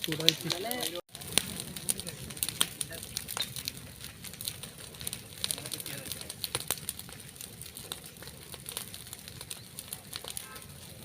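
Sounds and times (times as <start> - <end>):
fire crackling and popping: 0.0 - 11.0
low rumble of fire: 0.0 - 11.0.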